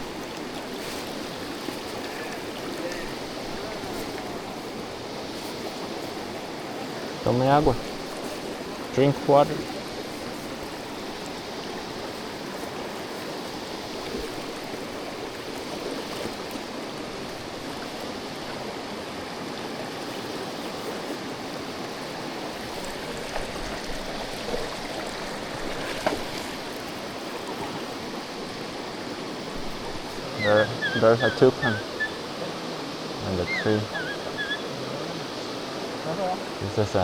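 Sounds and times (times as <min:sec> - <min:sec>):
river water rushing over rocks: 0:00.0 - 0:37.0.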